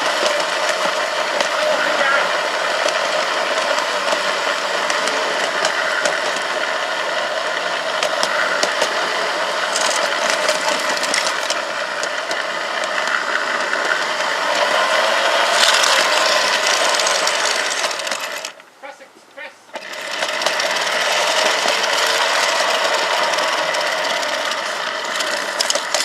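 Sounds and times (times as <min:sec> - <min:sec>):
small clicks and rattles: 0:00.0 - 0:02.0, 0:02.8 - 0:06.7, 0:07.4 - 0:14.7, 0:15.4 - 0:18.6, 0:19.8 - 0:26.0
model locomotive whirring: 0:00.0 - 0:18.6, 0:19.7 - 0:26.0.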